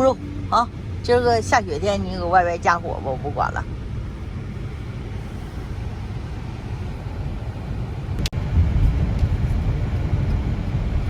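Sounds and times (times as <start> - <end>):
car interior road and engine rumble: 0.0 - 11.0.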